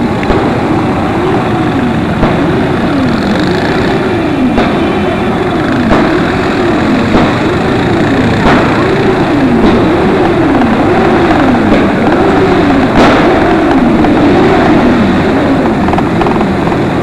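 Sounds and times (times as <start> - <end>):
dense rumble: 0.0 - 17.0
motorcycle and quad engines: 0.0 - 17.0
rising and falling pitched tone: 0.0 - 17.0.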